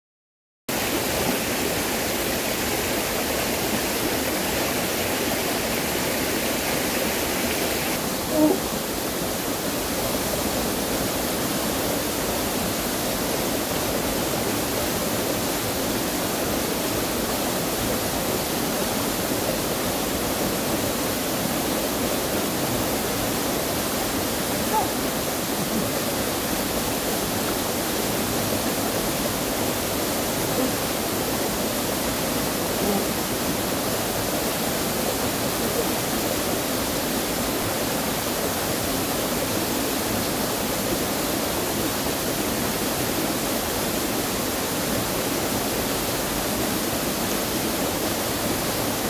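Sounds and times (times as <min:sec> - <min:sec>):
stream running over stones: 0:00.7 - 0:49.0
waterfall pouring into pool: 0:00.7 - 0:49.0.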